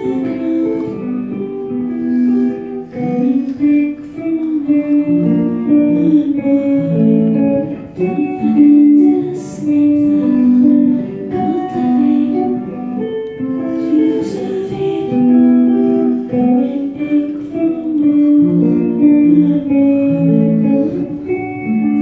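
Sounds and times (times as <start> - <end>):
electric guitar melody: 0.0 - 22.0.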